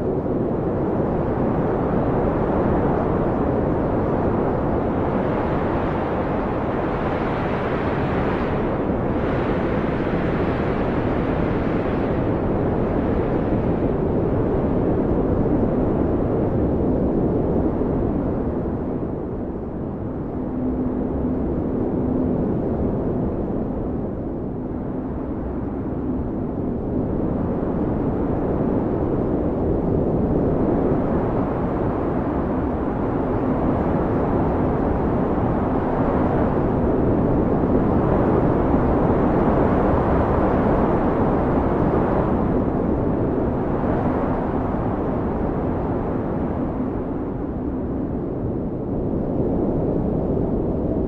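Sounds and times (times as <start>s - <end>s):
blizzard wind blowing hard: 0.0s - 51.0s
faint low howling tone: 0.0s - 51.0s.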